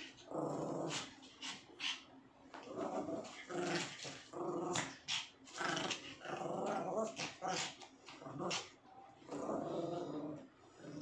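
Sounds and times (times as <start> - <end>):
small dogs growling: 0.0 - 2.0, 2.6 - 11.0.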